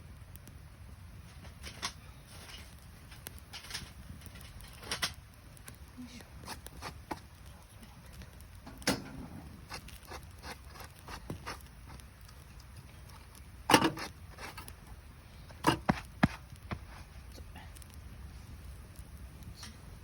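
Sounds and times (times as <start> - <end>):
campfire crackling: 0.0 - 20.0
fire pops: 0.0 - 20.0.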